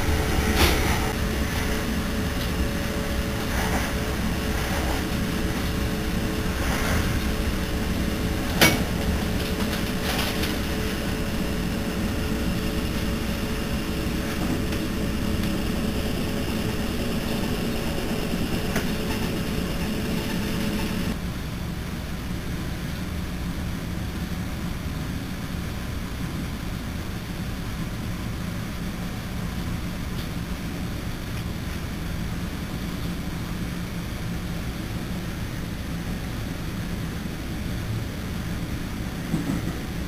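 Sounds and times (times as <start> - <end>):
train car rumble and hum: 0.0 - 40.0.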